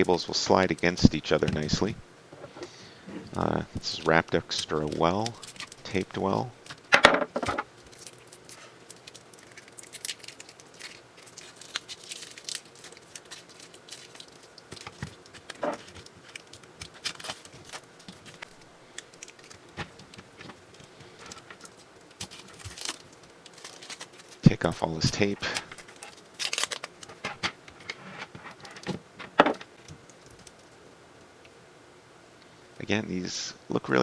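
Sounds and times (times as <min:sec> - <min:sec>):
crinkling: 0:00.0 - 0:30.8
tape crackling and clicking: 0:00.0 - 0:31.6
tape peeling: 0:03.1 - 0:30.6.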